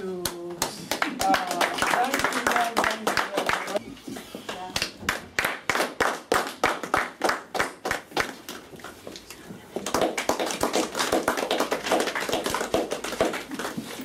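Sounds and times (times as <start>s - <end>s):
group clapping: 0.0s - 3.8s, 4.5s - 14.0s.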